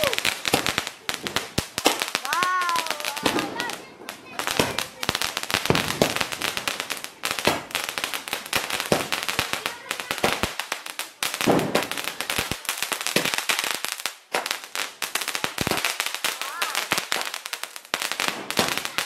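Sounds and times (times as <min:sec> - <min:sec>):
firecrackers crackling: 0:00.0 - 0:19.0.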